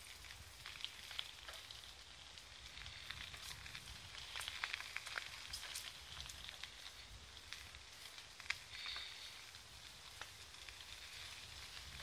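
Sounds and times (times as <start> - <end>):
bicycle tyres crackling on gravel: 0.0 - 12.0.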